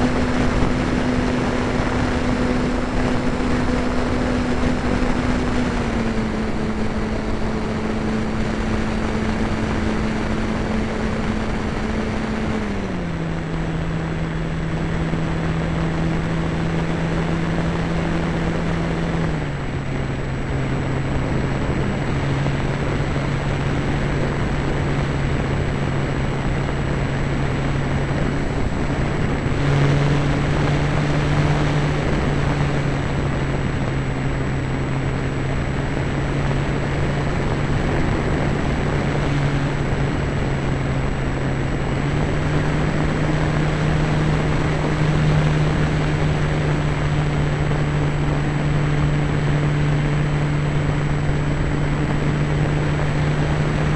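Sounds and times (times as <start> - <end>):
model airplane motor droning: 0.0 - 53.9
rushing air: 0.0 - 53.9.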